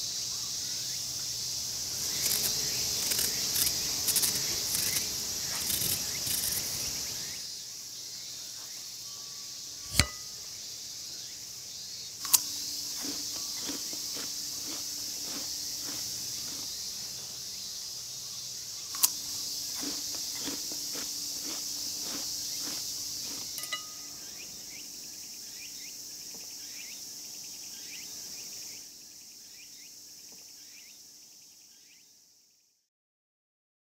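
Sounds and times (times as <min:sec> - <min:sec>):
insects chirring: 0:00.0 - 0:32.8.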